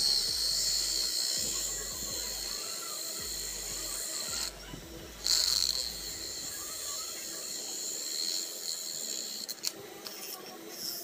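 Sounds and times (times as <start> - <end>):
small motor whining: 0.0 - 9.7.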